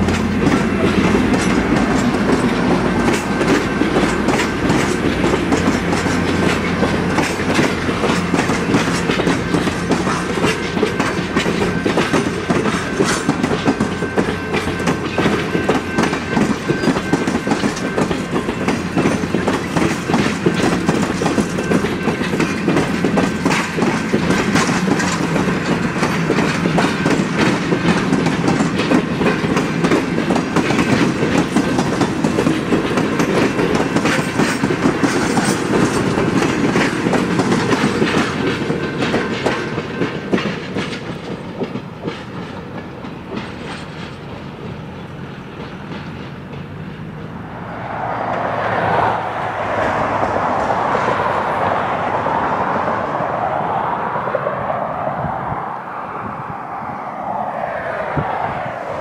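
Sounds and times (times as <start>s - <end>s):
train wheels clicking over rail joints: 0.0s - 52.9s.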